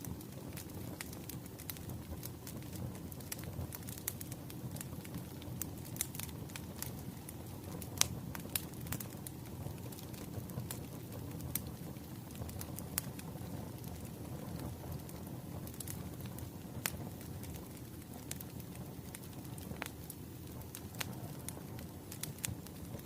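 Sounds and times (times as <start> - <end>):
firewood crackling: 0.0 - 23.0.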